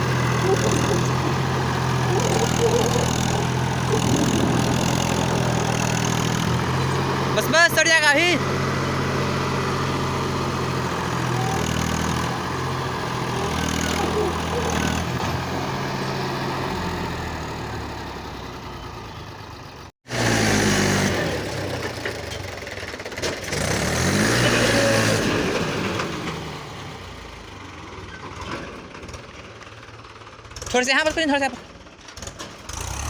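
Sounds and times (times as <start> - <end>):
tractor diesel engine labouring: 0.0 - 33.0.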